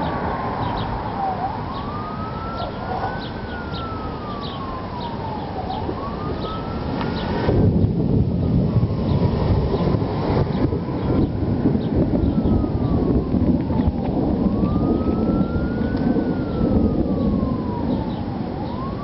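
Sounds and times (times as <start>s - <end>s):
outdoor noise: 0.0s - 19.0s
siren wailing: 0.0s - 19.0s.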